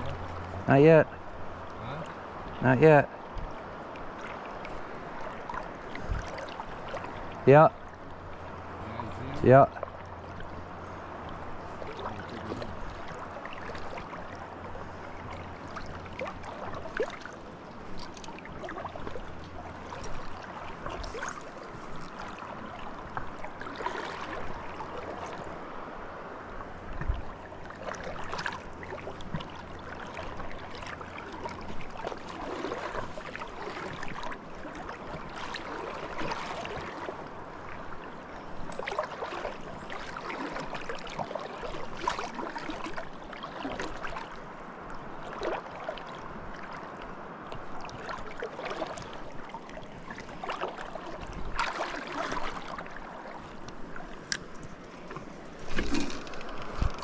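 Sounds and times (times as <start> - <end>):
river water running: 0.0 - 57.0
water splashes: 0.0 - 57.0.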